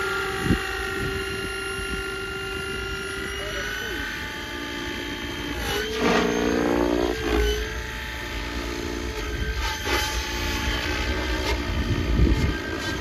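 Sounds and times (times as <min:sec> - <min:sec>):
rc helicopter rotor whine: 0:00.0 - 0:13.0.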